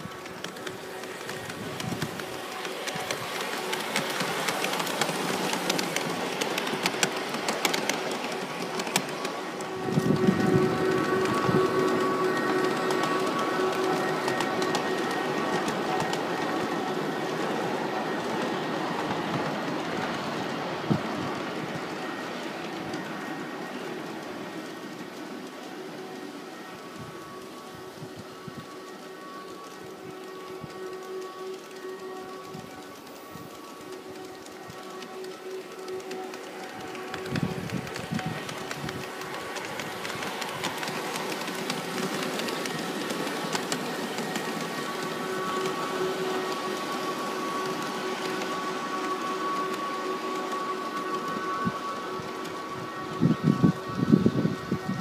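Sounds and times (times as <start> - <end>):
model train rumbling over track: 0.0 - 55.0.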